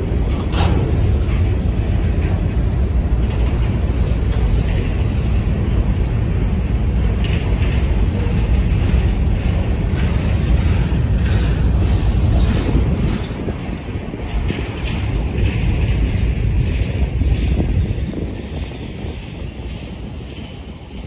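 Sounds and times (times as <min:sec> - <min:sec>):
freight train rumbling past: 0:00.0 - 0:21.0
train wheel clicks: 0:00.0 - 0:21.0.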